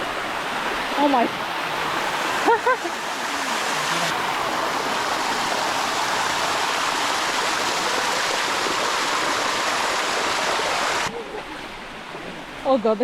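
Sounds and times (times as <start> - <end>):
waterfall rushing over rock: 0.0 - 11.1.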